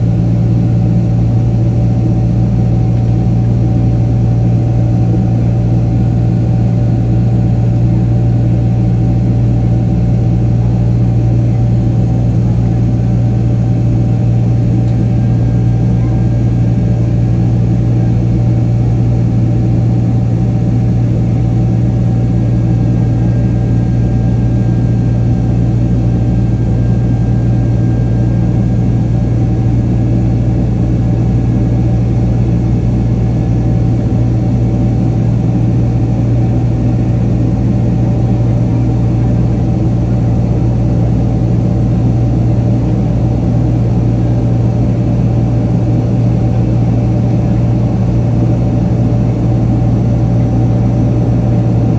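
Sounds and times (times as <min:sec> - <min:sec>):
jet engines droning: 0:00.0 - 0:51.9.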